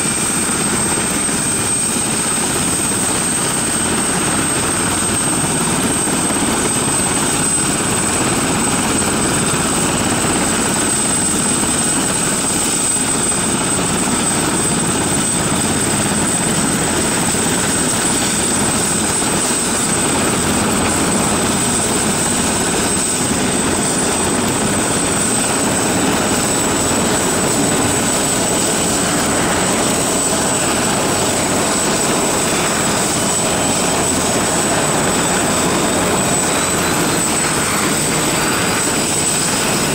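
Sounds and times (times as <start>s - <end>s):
engine and rotor rushing noise: 0.0s - 39.9s
helicopter turbine whine: 0.0s - 39.9s.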